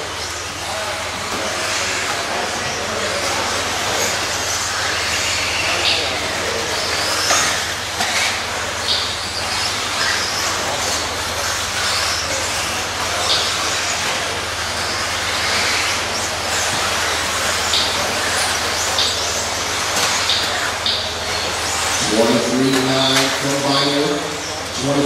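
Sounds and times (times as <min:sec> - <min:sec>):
rc car motor and tyre noise: 0:00.0 - 0:25.0.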